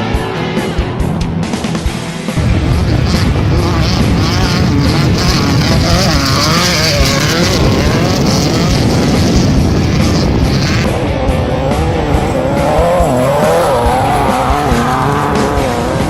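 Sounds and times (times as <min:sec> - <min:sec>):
buggy engine running hard: 0:00.0 - 0:16.0.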